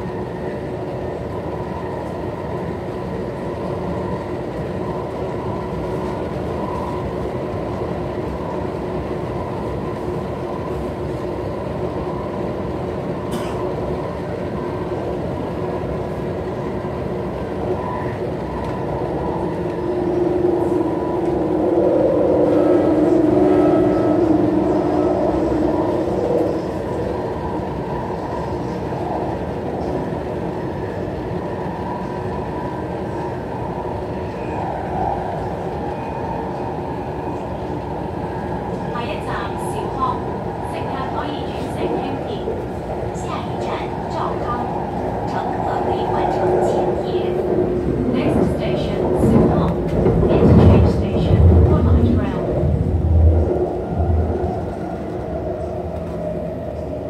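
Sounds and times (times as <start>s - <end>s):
train hum: 0.0s - 57.0s
train wheels rumbling on rail: 0.0s - 57.0s.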